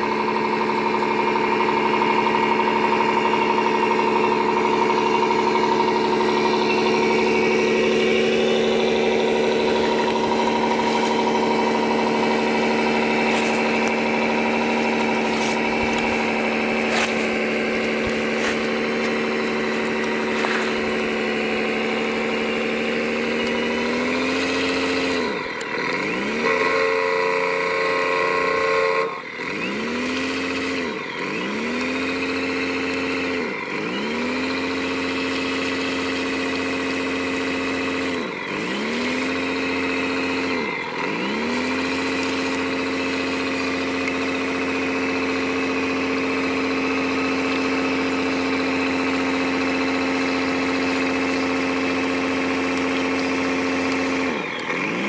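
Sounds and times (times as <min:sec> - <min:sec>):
toy truck motor hum: 0:00.0 - 0:55.0.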